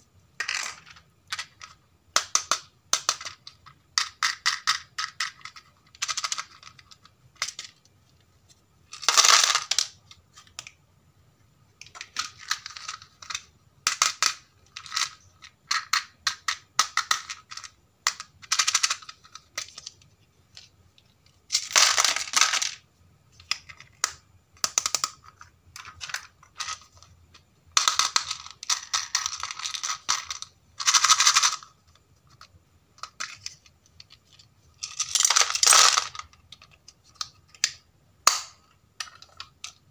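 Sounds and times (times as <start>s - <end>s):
plastic toys clicking and clattering: 0.4s - 8.2s, 8.8s - 10.8s, 11.8s - 39.9s.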